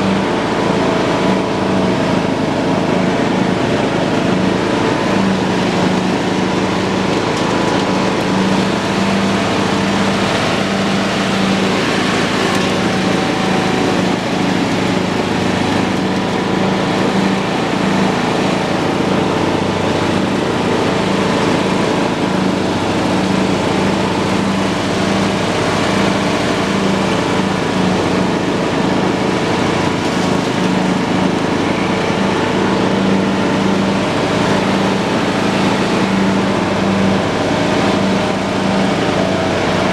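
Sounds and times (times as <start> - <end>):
lawn tractor mowing grass: 0.0 - 39.9.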